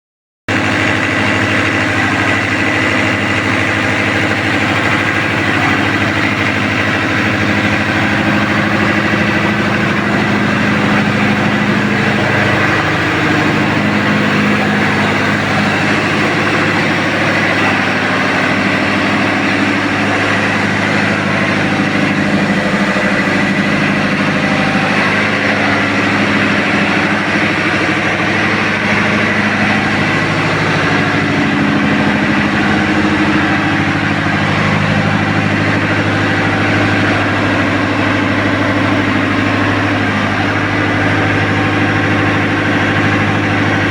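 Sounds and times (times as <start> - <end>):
diesel engine running: 0.5 - 43.9.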